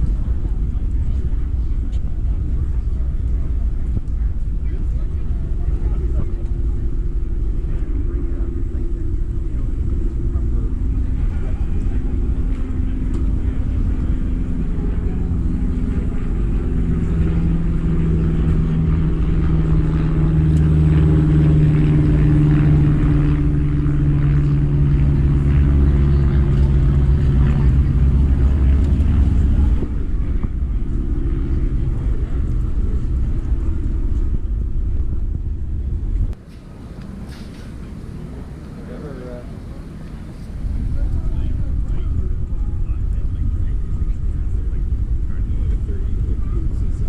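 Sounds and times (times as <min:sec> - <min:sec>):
car engine rumbling: 0:00.0 - 0:47.0.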